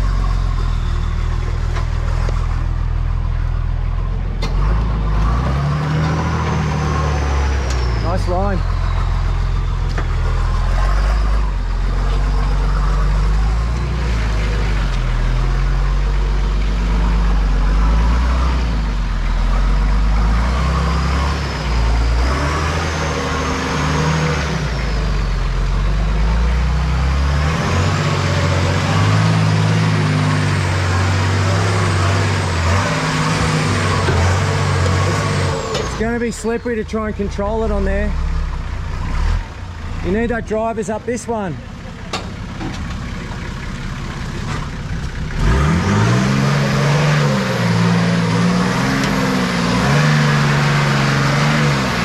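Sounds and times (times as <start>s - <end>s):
off-road engine revving uphill: 0.0s - 52.0s.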